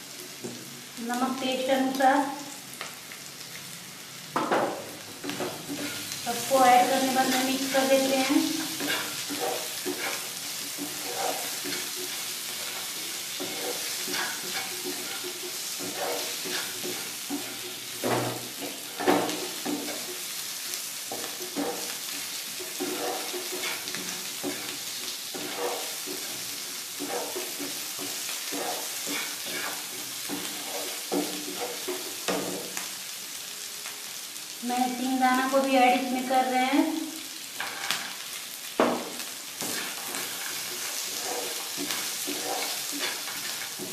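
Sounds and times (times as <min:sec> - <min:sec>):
potatoes sizzling in hot oil: 0:00.0 - 0:43.9.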